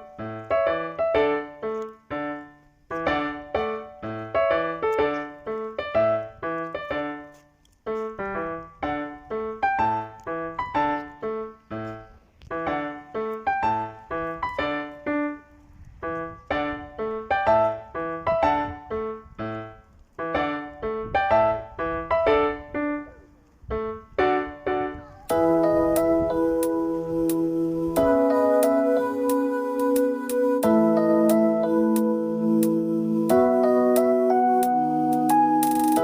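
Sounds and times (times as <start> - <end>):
gentle solo piano melody: 0.0 - 36.0.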